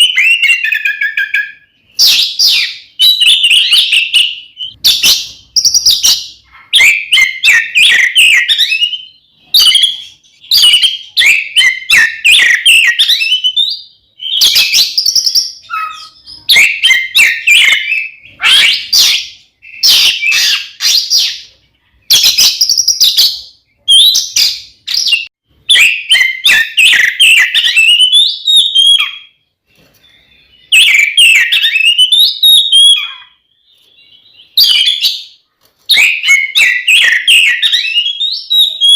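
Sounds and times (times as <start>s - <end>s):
bird singing whistles and chips: 0.0s - 21.5s, 22.1s - 38.9s.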